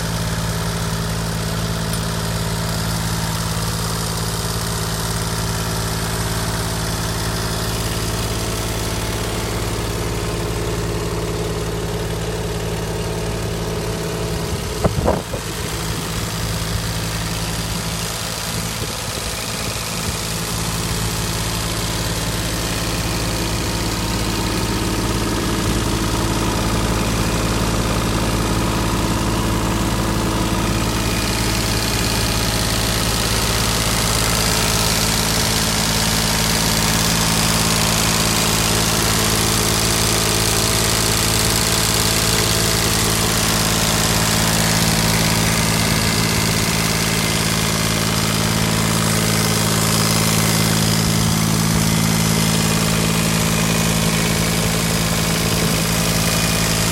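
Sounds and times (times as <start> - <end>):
diesel tractor engine running: 0.0 - 56.9.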